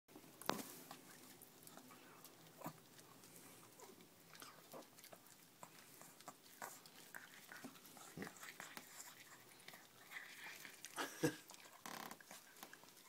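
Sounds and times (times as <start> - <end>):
dog gnawing corn cob: 0.3 - 13.0.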